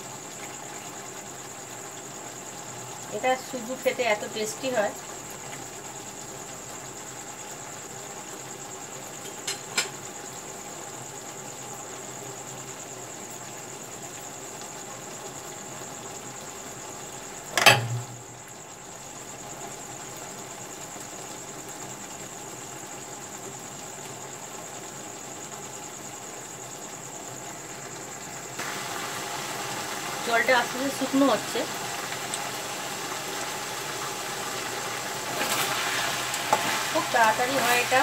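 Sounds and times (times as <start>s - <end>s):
sauce sizzling in a frying pan: 0.0s - 38.0s.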